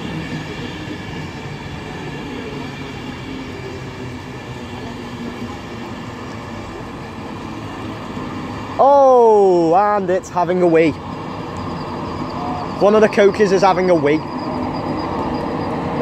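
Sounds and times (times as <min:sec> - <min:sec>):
electric train humming: 0:00.0 - 0:16.0
steady whining tones: 0:00.0 - 0:16.0.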